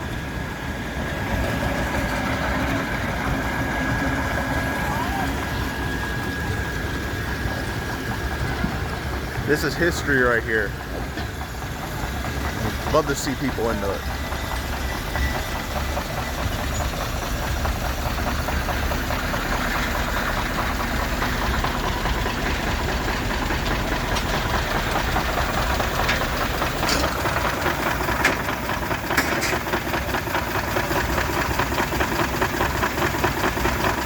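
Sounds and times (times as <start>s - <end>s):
steam engine running: 0.0s - 34.0s.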